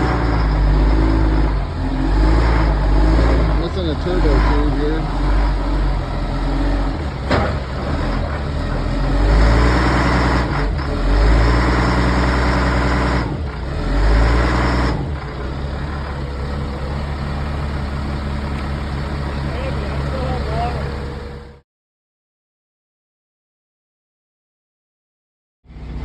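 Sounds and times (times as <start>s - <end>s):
diesel truck engine pulling away: 0.0s - 21.6s, 25.7s - 26.0s.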